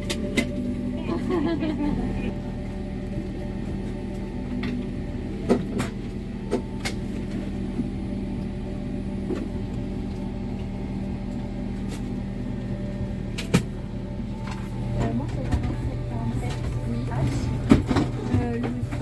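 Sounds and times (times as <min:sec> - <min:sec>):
aircraft cabin hum: 0:00.0 - 0:19.0.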